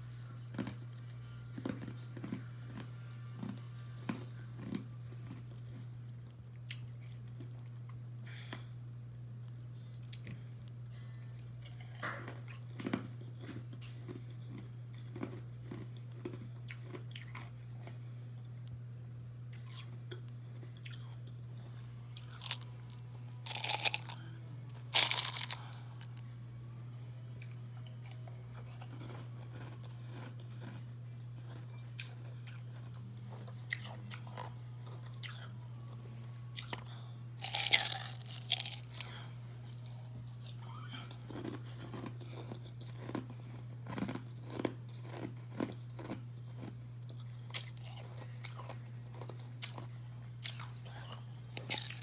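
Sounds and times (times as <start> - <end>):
low steady hum: 0.0 - 52.0
ice crunching and chewing: 0.1 - 18.0, 19.5 - 21.3, 22.1 - 26.2, 27.4 - 30.8, 31.4 - 35.6, 36.5 - 52.0.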